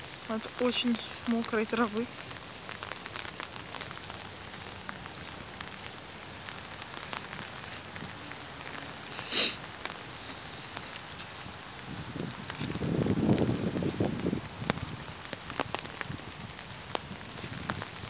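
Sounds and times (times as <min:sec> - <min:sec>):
light rain: 0:00.0 - 0:18.0.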